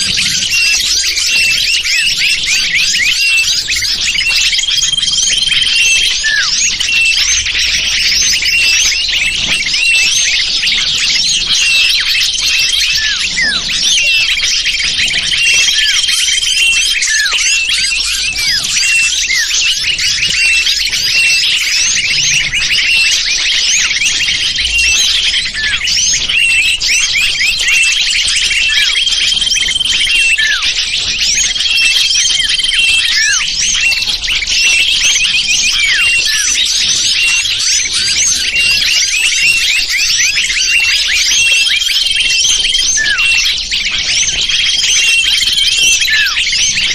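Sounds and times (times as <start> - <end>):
high bird trill: 0.0 - 46.9
small birds chirping: 0.0 - 46.9.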